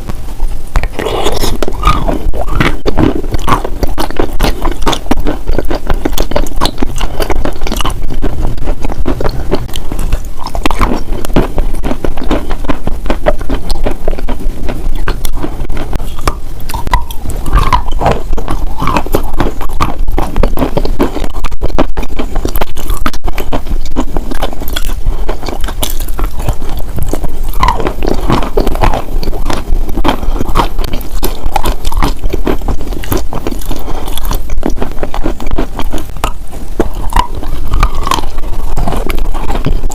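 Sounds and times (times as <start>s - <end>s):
close crunching and crackling: 0.8s - 39.9s.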